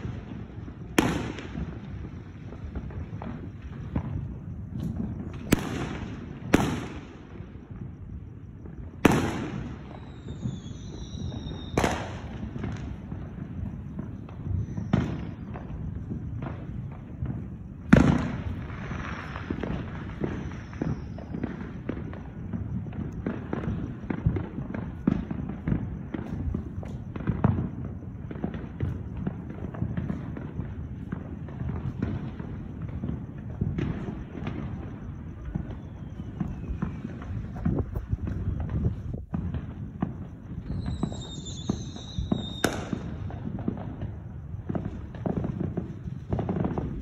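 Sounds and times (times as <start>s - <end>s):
firecracker crackling: 0.0s - 47.0s
fireworks bangs: 0.0s - 47.0s.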